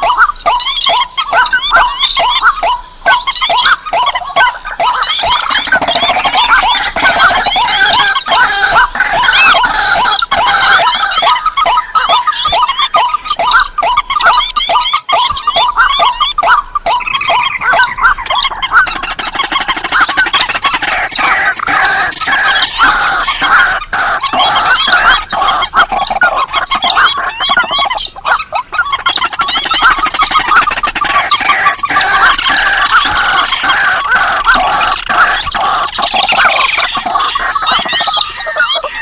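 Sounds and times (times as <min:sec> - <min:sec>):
marsh bird calls: 0:00.0 - 0:39.0.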